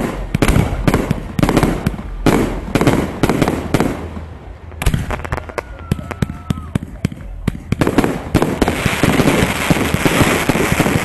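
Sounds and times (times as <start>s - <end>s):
firework crackling and popping: 0.0s - 11.0s.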